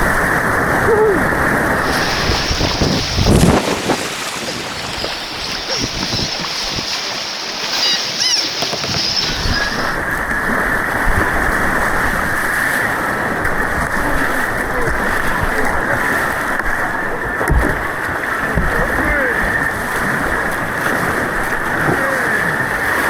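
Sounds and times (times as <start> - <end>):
whitewater rushing and splashing: 0.0 - 23.0.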